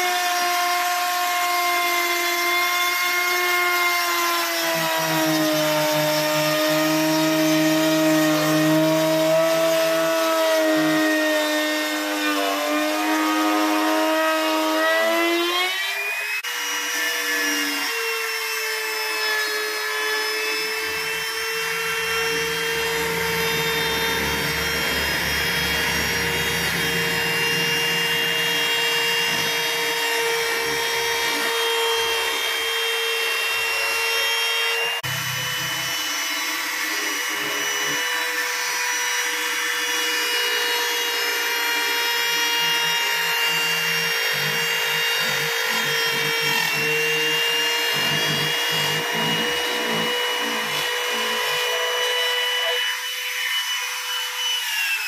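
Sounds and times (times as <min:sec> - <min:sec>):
router bit cutting wood: 0:00.0 - 0:55.0
router motor whine: 0:00.0 - 0:55.0.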